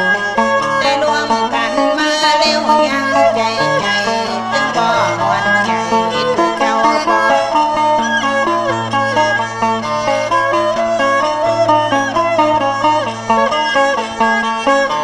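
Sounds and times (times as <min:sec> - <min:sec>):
bowed fiddle melody: 0:00.0 - 0:15.0
plucked lute: 0:00.0 - 0:15.0
low drone: 0:01.2 - 0:14.9.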